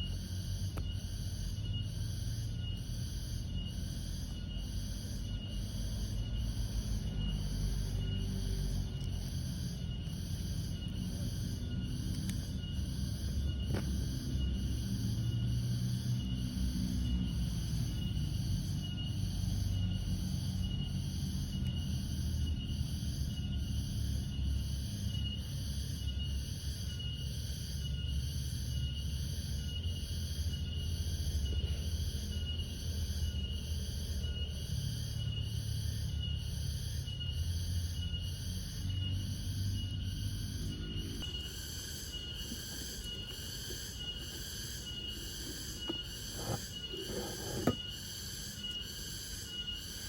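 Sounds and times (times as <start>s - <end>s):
crickets chirping: 0.0s - 50.0s
high insect trill: 0.0s - 50.0s.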